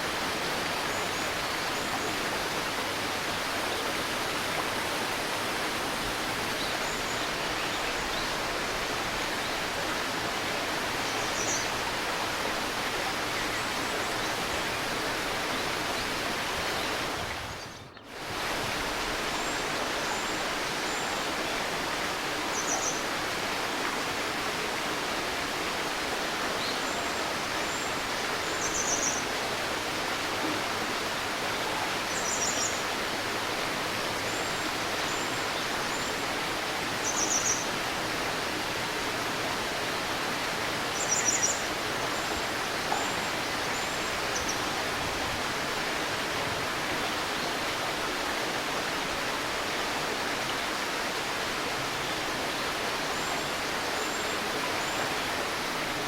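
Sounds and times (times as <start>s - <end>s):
shallow stream murmuring: 0.0s - 56.0s.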